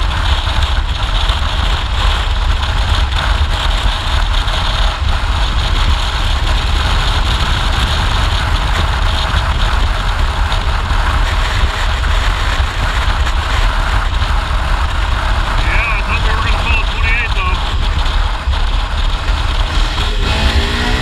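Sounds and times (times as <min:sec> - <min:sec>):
motorcycle engine rumble: 0:00.0 - 0:21.0
wind rushing on microphone: 0:00.0 - 0:21.0.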